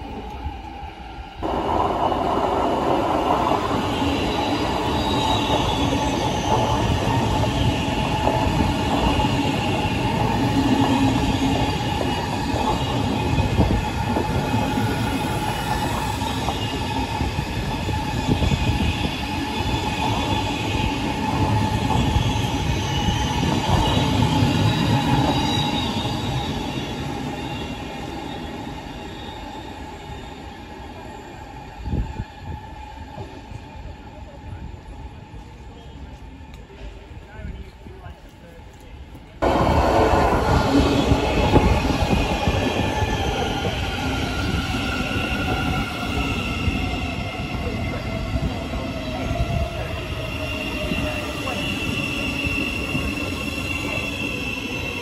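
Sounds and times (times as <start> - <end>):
train wheels squealing: 3.1 - 36.3, 40.7 - 55.0.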